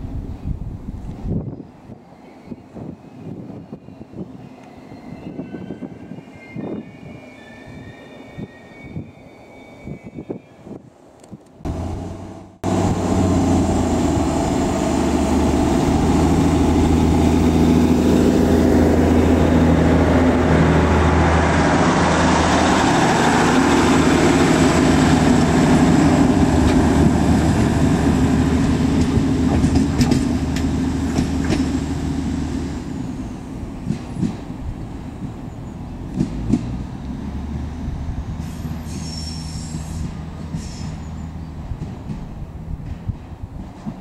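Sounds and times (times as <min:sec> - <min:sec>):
diesel railcar passing: 0:00.0 - 0:44.0.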